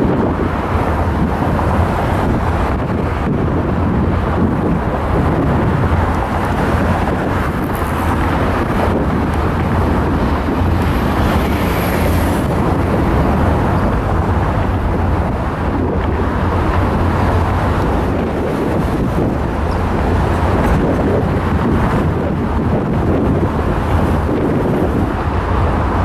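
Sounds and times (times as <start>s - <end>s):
train rumbling past: 0.0s - 26.0s
wind buffeting microphone: 0.0s - 26.0s.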